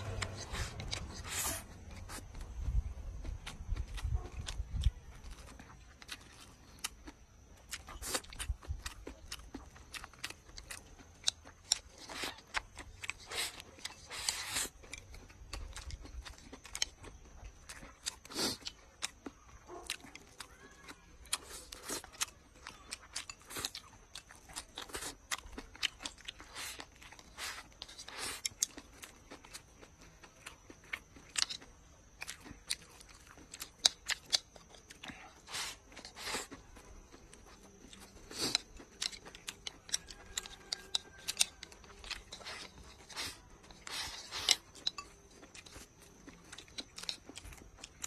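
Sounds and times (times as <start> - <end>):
person chewing and crunching food: 0.0 - 48.0.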